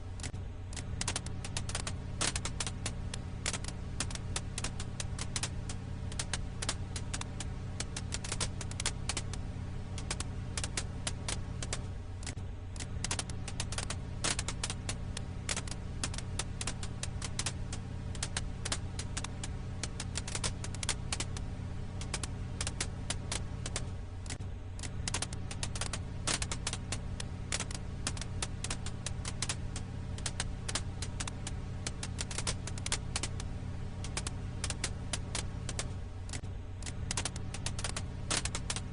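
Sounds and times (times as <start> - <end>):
steady low hum: 0.0 - 38.9
wood fire crackling: 0.0 - 38.9.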